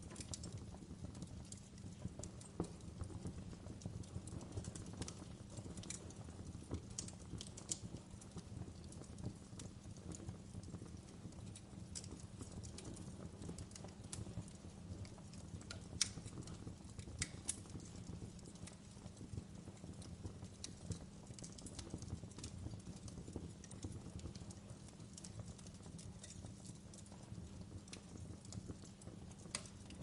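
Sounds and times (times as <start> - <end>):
fire pops and snaps: 0.0 - 30.0
fireplace fire crackling: 0.0 - 30.0.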